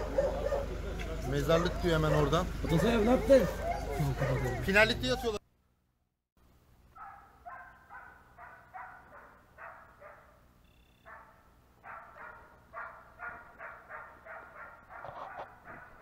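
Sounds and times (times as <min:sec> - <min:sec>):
dog barking faintly: 0:00.0 - 0:05.4, 0:07.0 - 0:10.4, 0:11.0 - 0:16.0.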